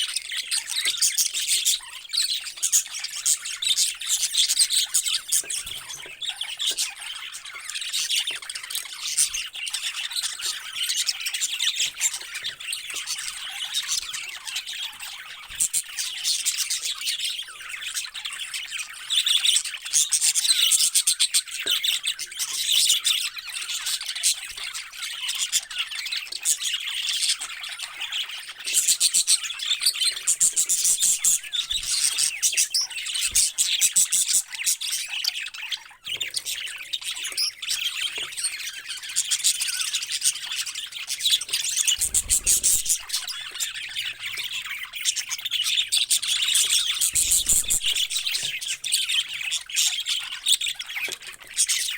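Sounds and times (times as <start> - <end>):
parrots chirping and squawking: 0.1 - 51.9.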